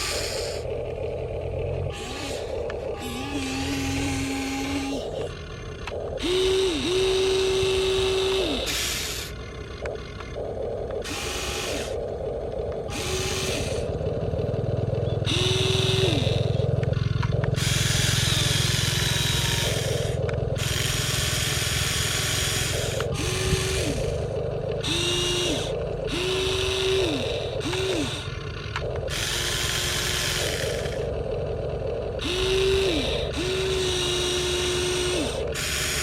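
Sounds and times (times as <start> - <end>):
electric motors and gearboxes whirring: 0.0 - 36.0
steady low hum: 0.0 - 36.0.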